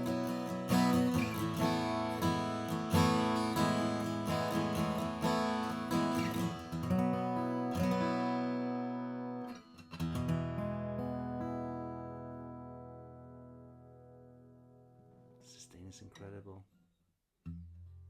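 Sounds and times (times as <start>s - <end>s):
acoustic guitar strummed and picked: 0.0s - 15.7s, 17.4s - 18.0s.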